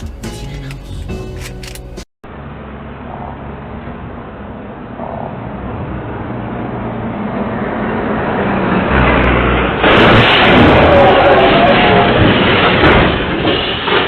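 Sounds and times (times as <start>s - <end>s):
vehicle engine: 0.0s - 13.4s
road noise: 0.0s - 14.0s.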